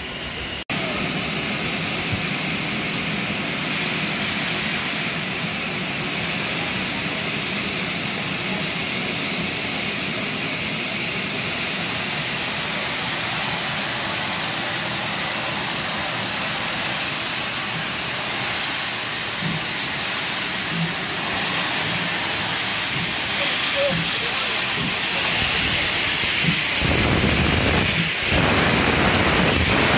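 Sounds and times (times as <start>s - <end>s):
steam hissing from locomotive: 0.0s - 29.9s.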